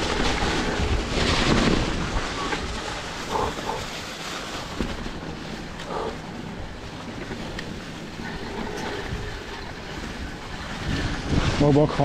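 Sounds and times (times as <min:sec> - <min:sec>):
tyres rolling over trail: 0:00.0 - 0:12.0
wind on microphone: 0:00.0 - 0:12.0.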